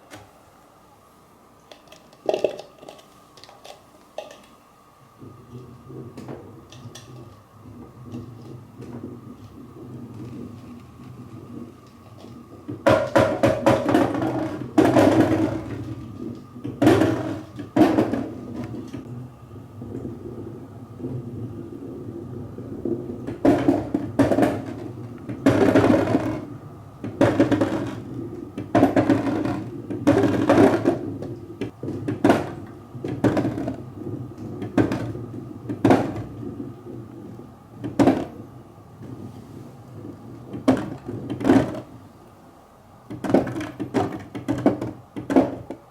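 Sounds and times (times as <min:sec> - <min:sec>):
marbles rolling on wooden track: 0:05.2 - 0:19.1, 0:19.8 - 0:42.0, 0:43.1 - 0:45.9.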